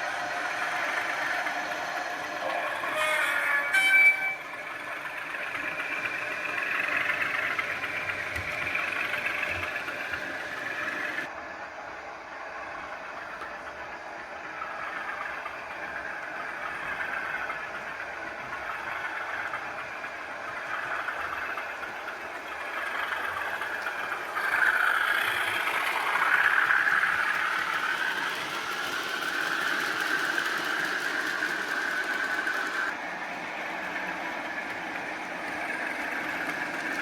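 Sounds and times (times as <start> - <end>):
model diesel engine sound from speaker: 0.0 - 37.0.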